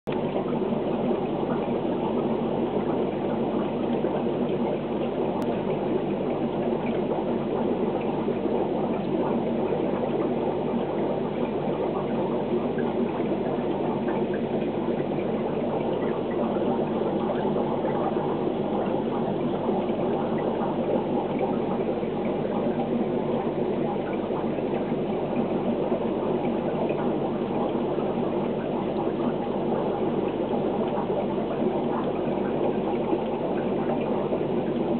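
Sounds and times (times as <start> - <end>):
low motor hum: 0.1 - 34.9
water bubbling and churning: 0.1 - 34.9.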